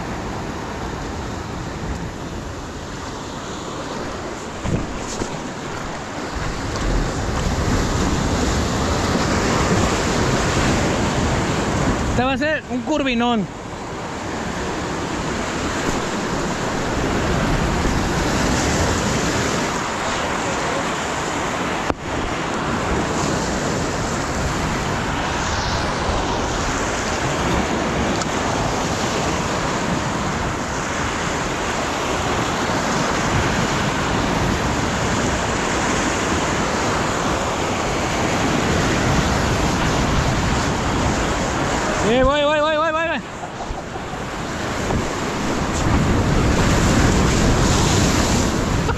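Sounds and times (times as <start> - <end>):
wind on microphone: 0.0 - 48.9
surf breaking on rocks: 1.5 - 48.9.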